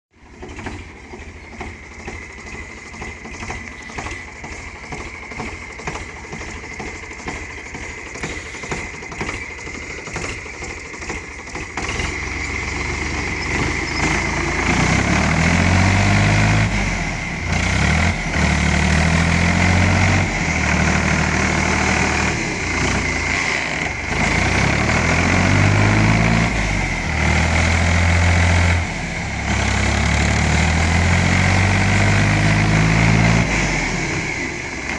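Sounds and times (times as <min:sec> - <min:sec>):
tractor engine revving: 0:00.2 - 0:34.9.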